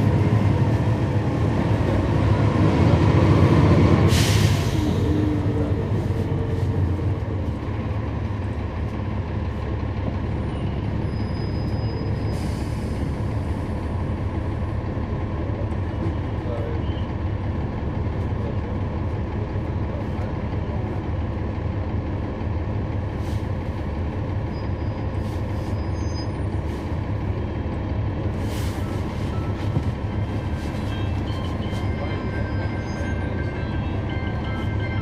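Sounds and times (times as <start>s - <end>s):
diesel bus engine droning: 0.0s - 35.0s.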